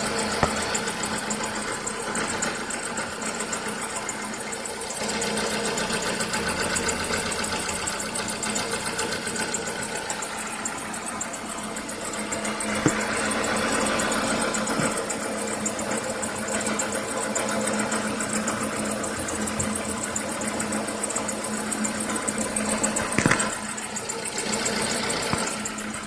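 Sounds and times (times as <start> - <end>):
car engine idling: 0.0 - 26.0
whistle from engine: 0.0 - 26.0.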